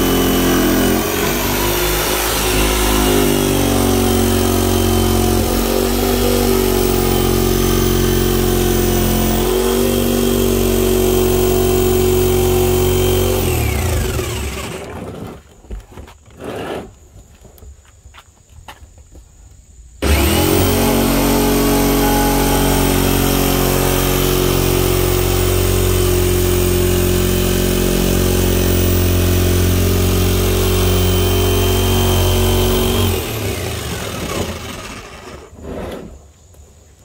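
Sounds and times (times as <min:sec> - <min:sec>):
jigsaw cutting plastic: 0:00.0 - 0:15.5, 0:20.0 - 0:36.0.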